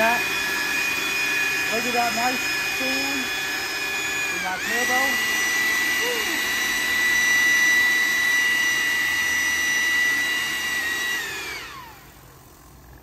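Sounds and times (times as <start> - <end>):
leaf blower whining: 0.0 - 13.0.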